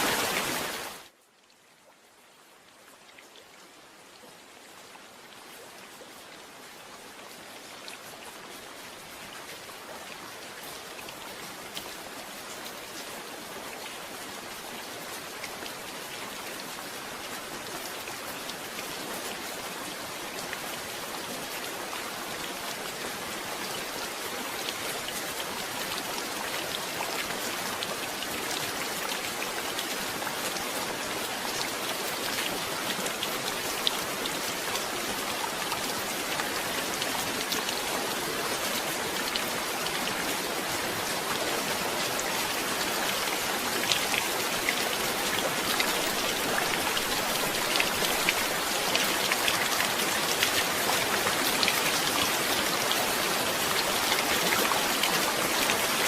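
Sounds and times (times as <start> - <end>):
heavy rain falling: 0.0 - 1.1, 8.4 - 56.0.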